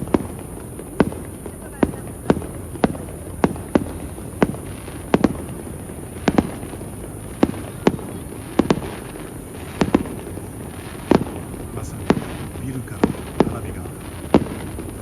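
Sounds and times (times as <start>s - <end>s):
fireworks shells bursting: 0.0s - 15.0s.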